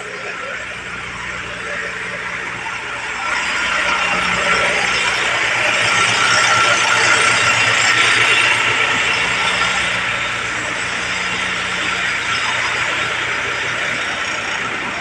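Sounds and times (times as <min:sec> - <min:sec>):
concrete mixer rattling: 0:00.0 - 0:15.0
low engine hum: 0:00.0 - 0:15.0.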